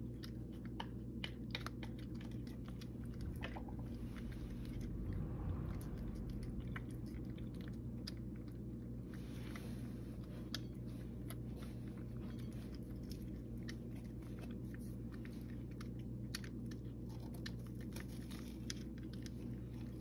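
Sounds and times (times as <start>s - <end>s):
cat crunching food: 0.0s - 20.0s
low steady hum: 0.0s - 20.0s.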